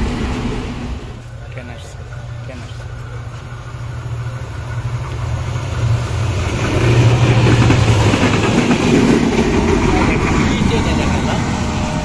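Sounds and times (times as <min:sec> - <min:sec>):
train wheels clattering: 0:00.0 - 0:11.7
diesel locomotive engine hum: 0:00.0 - 0:12.0.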